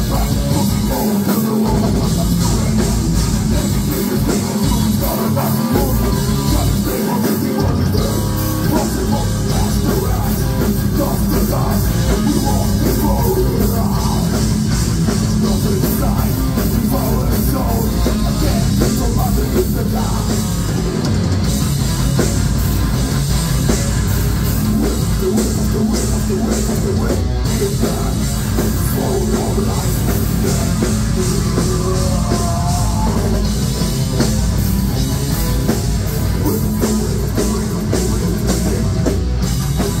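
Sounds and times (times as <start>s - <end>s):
bass guitar: 0.0s - 40.0s
distorted electric guitar: 0.0s - 40.0s
drum kit: 0.0s - 40.0s.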